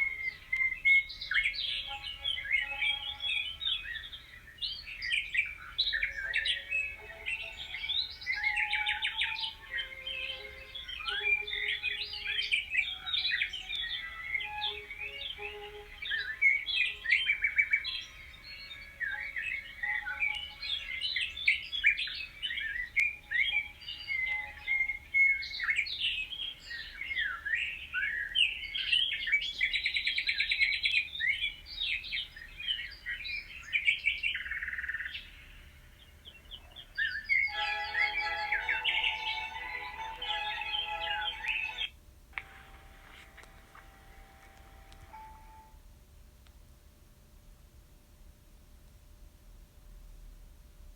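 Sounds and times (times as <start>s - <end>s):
songbirds chirping and singing: 0.0s - 45.4s.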